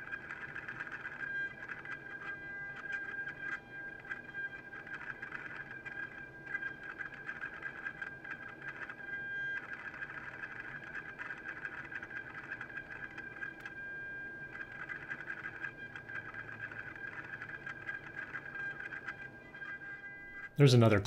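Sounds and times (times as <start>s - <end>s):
steady high-pitched hum: 0.0s - 21.0s.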